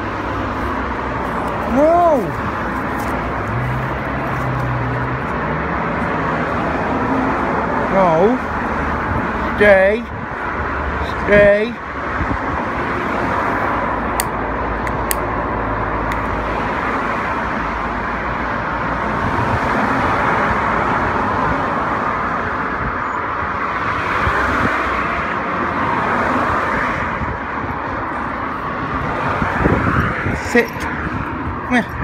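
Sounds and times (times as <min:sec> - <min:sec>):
road traffic noise: 0:00.0 - 0:32.0
vehicles passing: 0:00.0 - 0:32.0.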